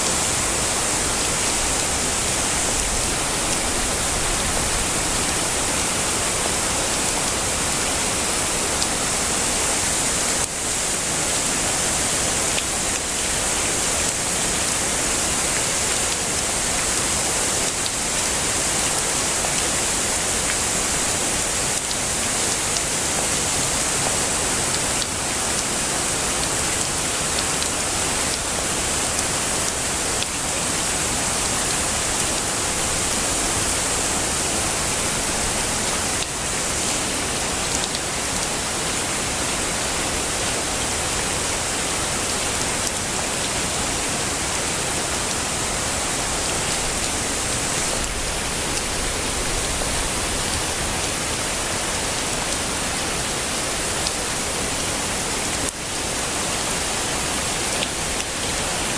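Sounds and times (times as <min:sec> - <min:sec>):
heavy rain hissing: 0:00.0 - 0:58.9.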